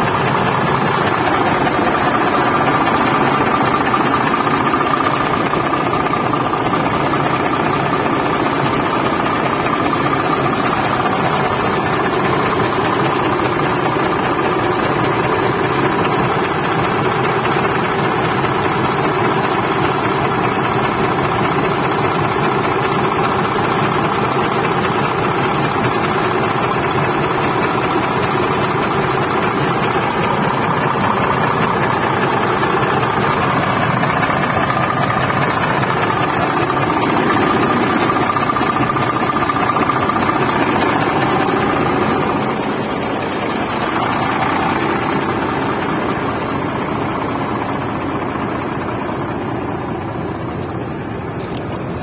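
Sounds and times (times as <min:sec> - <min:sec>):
diesel engine idling: 0:00.0 - 0:52.0.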